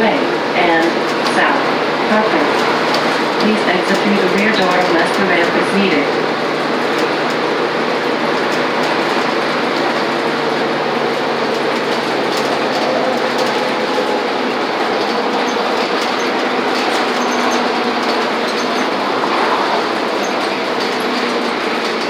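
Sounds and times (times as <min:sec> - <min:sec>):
bus engine hum: 0:00.0 - 0:22.0
road noise: 0:00.0 - 0:22.0.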